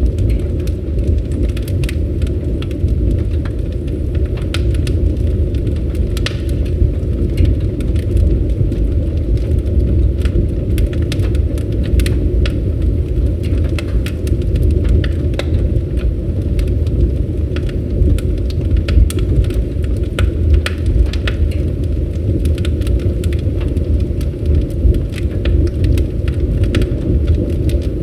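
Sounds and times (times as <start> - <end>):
low rumble of fire: 0.0 - 28.0
wood crackling and popping: 0.0 - 28.0.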